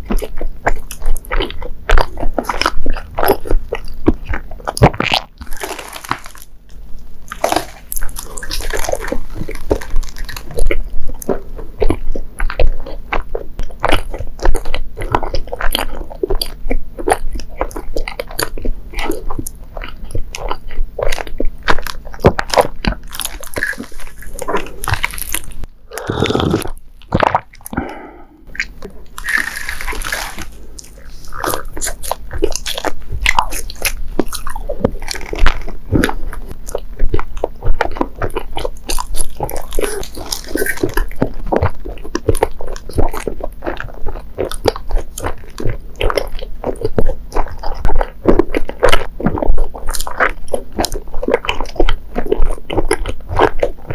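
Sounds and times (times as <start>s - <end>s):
biting into soft sweet: 0.0s - 53.9s
close-miked chewing with mouth clicks: 0.0s - 53.9s.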